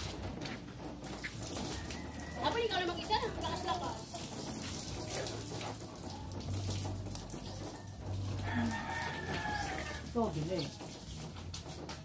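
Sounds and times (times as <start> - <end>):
hose water running: 0.0 - 12.0.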